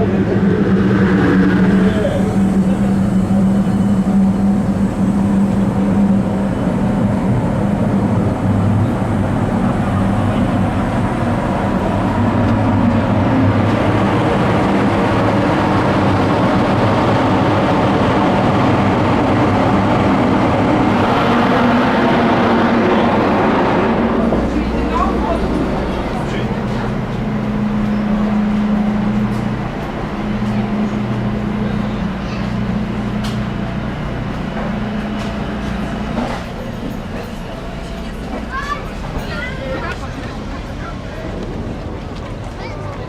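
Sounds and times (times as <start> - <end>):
machinery hum: 0.0 - 42.7
constant rushing noise: 0.0 - 43.0.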